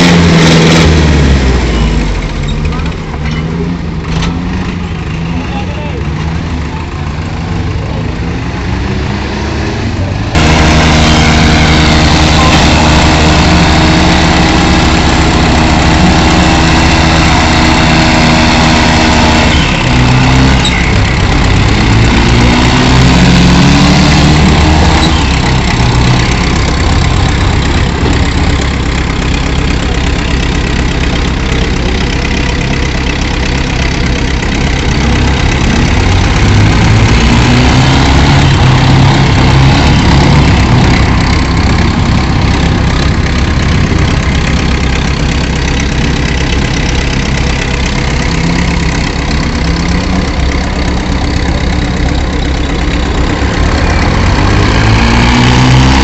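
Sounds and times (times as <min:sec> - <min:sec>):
tractor engines running hard: 0:00.0 - 0:56.0.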